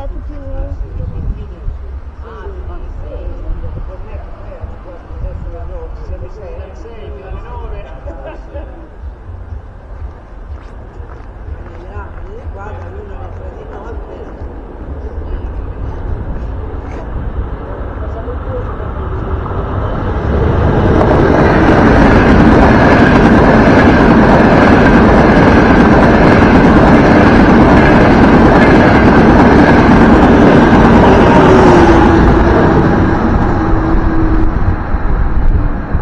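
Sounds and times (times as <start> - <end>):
high-speed train passing: 0.0 - 36.0.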